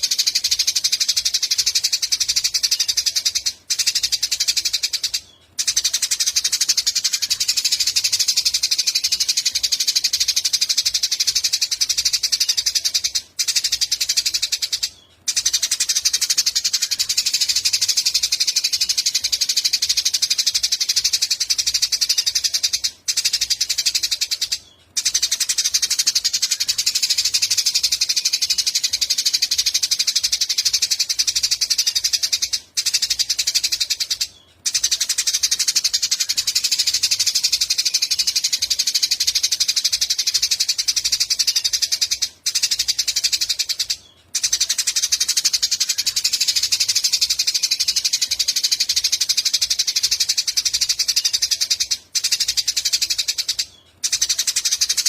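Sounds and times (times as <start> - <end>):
songbird chattering trill: 0.0 - 55.0.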